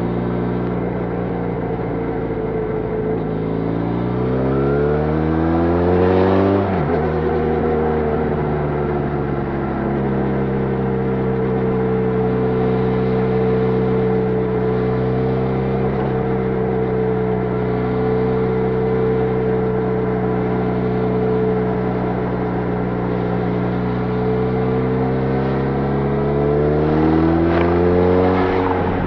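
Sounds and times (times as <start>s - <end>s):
motorcycle engine revving: 2.8s - 29.0s.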